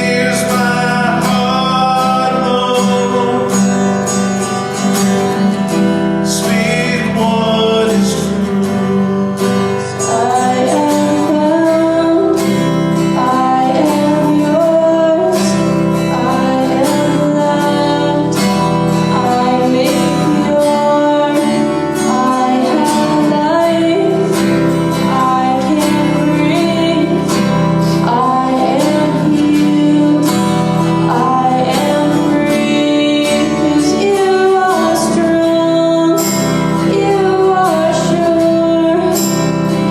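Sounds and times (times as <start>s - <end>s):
acoustic guitar strumming: 0.0s - 39.9s
person singing: 0.0s - 39.9s.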